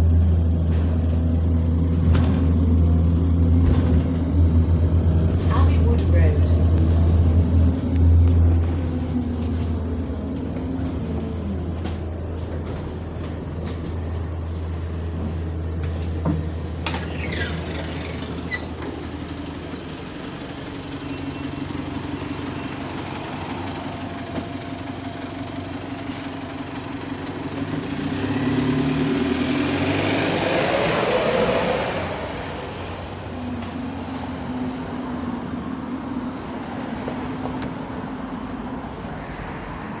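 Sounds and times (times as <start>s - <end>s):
bus engine humming and revving: 0.0s - 40.0s
passing road traffic: 0.0s - 40.0s.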